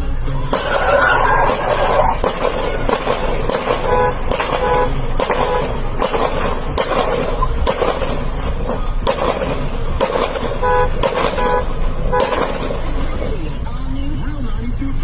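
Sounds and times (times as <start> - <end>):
traffic and engine noise: 0.0 - 15.0
car horns honking: 0.5 - 13.6.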